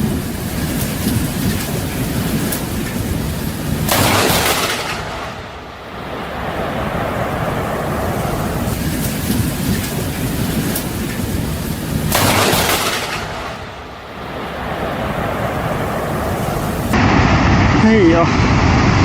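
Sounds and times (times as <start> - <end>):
storm noise rushing: 0.0 - 19.0
thunderclap rumbling: 0.0 - 19.0.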